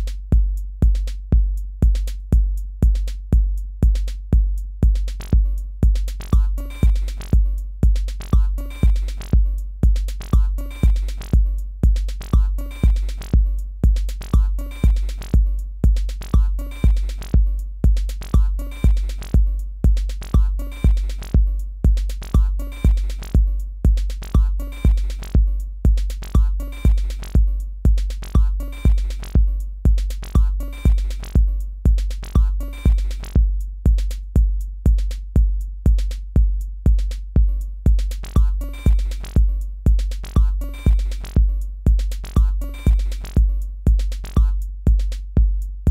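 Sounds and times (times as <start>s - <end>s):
electronic drum pattern: 0.0s - 45.9s.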